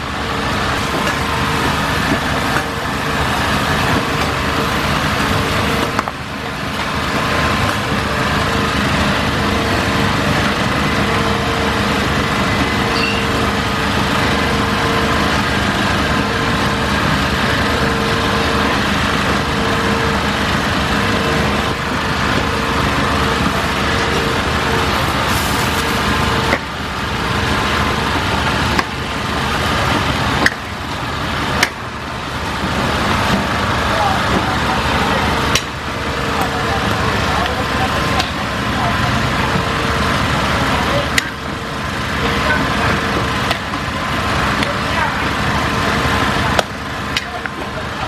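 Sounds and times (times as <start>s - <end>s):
loud engine-like drone: 0.0s - 48.0s.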